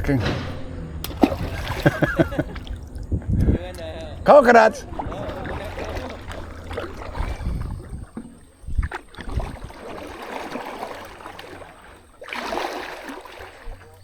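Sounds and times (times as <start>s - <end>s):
short low knocks: 0.0s - 12.2s
paddle splashing through water: 0.0s - 14.0s.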